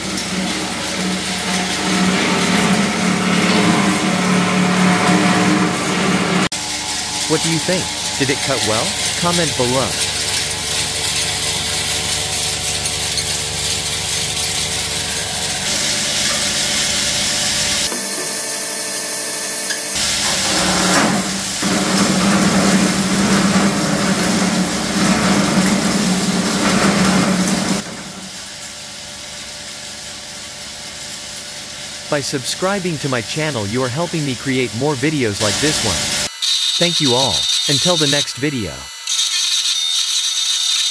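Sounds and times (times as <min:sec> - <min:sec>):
wood chipper running: 0:00.0 - 0:38.6.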